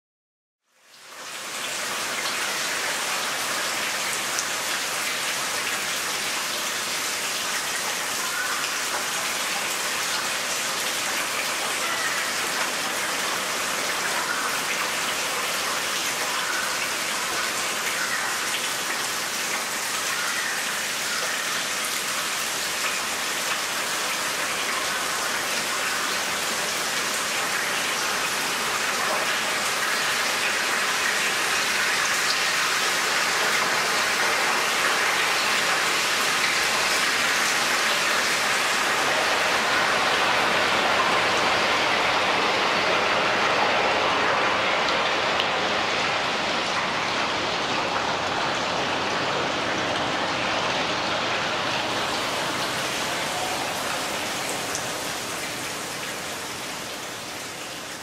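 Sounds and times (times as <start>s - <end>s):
steady rain hiss: 0.7s - 58.0s.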